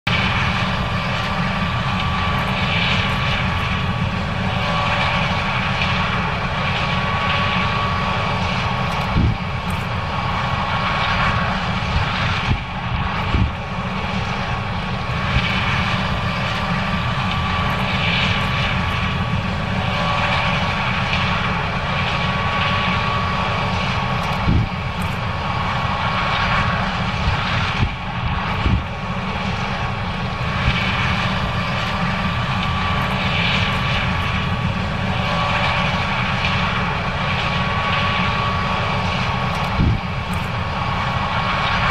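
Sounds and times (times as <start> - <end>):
combine harvester machinery drone: 0.0 - 41.9.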